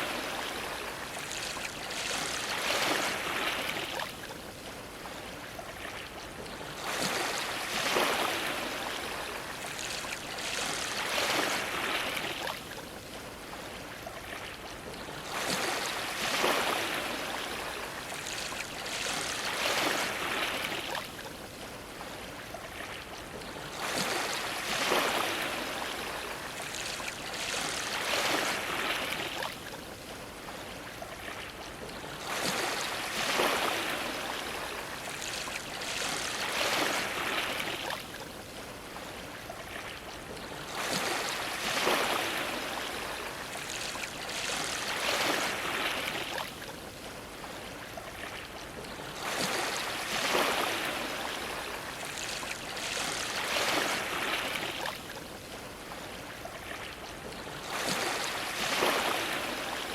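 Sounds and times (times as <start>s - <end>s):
ocean waves washing against dock: 0.0s - 59.9s.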